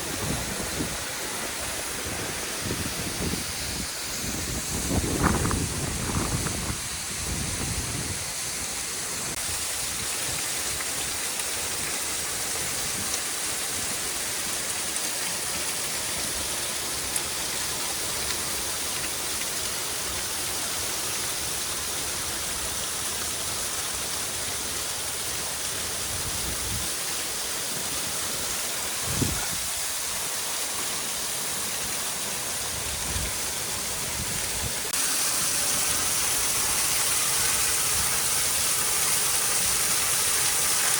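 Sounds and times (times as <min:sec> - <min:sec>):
rushing water of a stream: 0:00.0 - 0:40.9.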